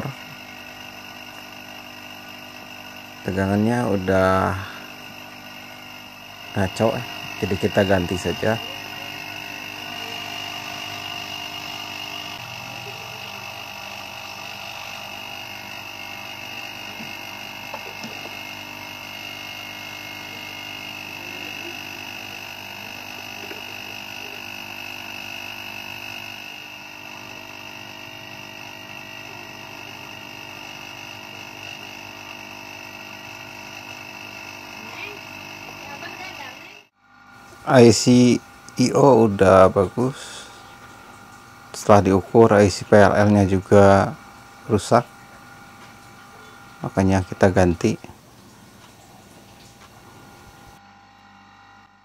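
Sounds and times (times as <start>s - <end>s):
machine hum with high-pitched whine: 0.0s - 52.0s.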